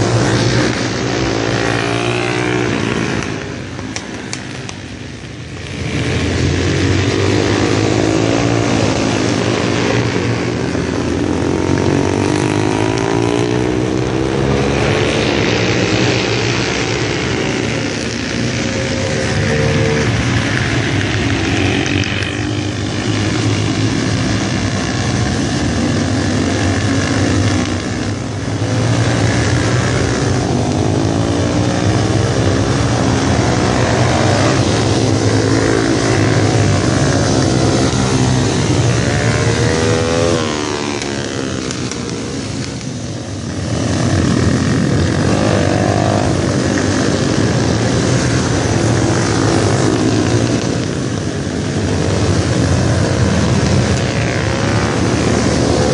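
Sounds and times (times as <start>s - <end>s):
minibike racing engines passing: 0.0s - 55.9s.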